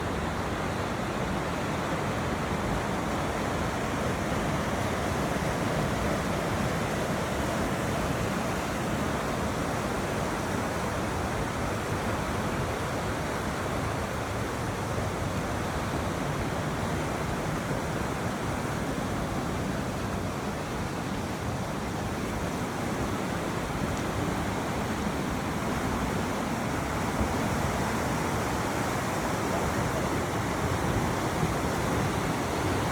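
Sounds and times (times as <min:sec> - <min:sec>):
river rushing: 0:00.0 - 0:32.9.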